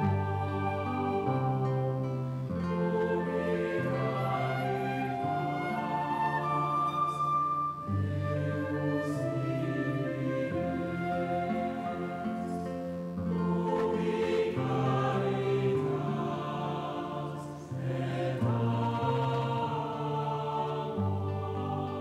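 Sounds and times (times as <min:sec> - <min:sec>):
choir singing slow held notes: 0:00.0 - 0:22.0.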